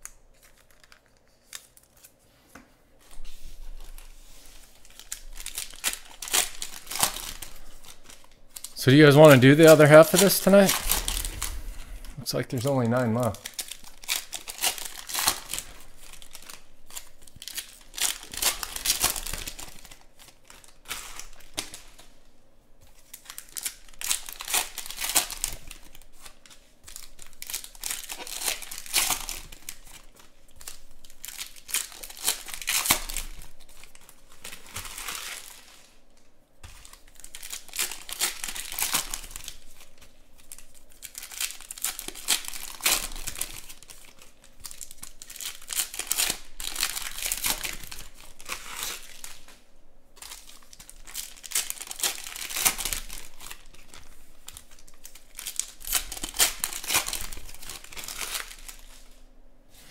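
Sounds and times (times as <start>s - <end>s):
foil wrappers tearing and crinkling: 0.0s - 2.2s, 3.1s - 22.1s, 22.9s - 36.0s, 36.7s - 49.6s, 50.2s - 59.2s.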